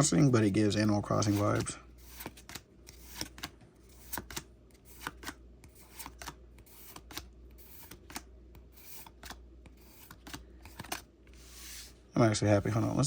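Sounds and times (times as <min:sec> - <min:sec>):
cards sliding and snapping: 0:01.2 - 0:11.9.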